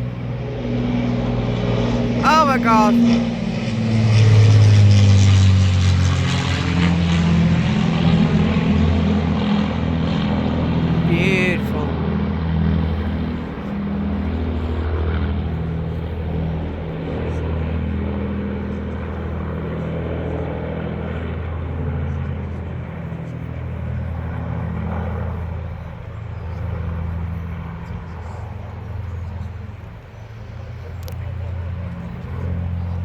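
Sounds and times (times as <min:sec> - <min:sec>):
propeller plane engines droning: 0:00.0 - 0:33.0.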